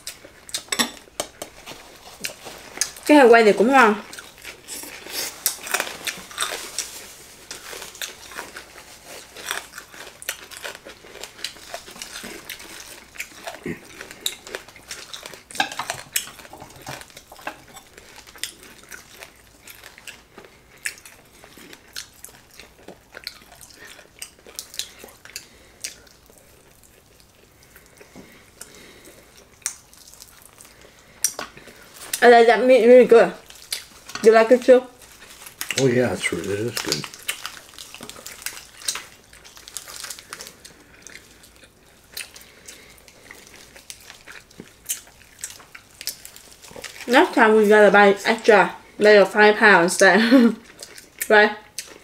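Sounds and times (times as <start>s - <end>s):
chewing and crunching: 0.0s - 32.3s, 32.9s - 52.0s.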